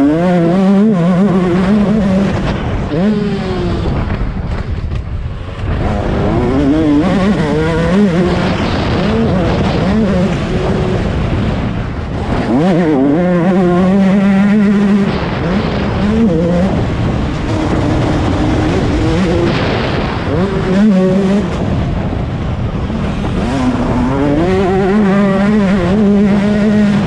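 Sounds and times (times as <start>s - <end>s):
two-stroke motorcycle engine revving: 0.0s - 27.0s.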